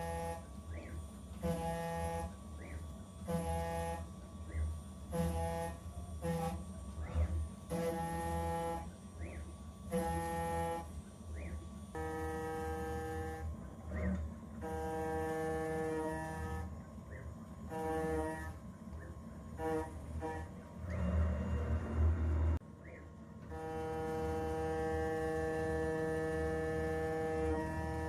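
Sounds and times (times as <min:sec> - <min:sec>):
router cutting steel pitched tone: 0:00.0 - 0:22.1, 0:23.4 - 0:28.0
steady low hum: 0:00.0 - 0:28.0.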